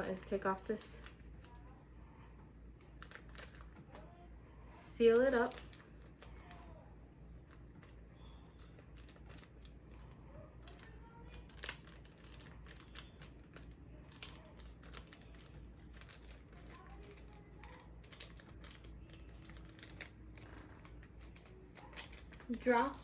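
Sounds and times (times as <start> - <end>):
plastic bag crinkling and clicking: 2.8 - 4.1, 5.1 - 6.8, 7.4 - 23.0.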